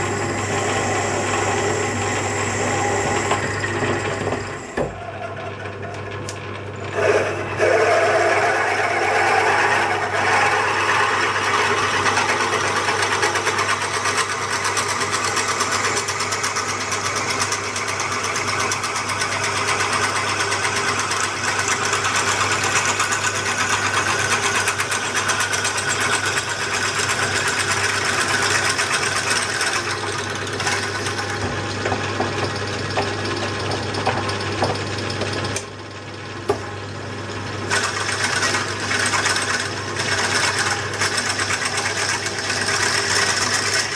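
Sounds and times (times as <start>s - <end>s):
lathe motor and gear hum: 0.0s - 43.9s.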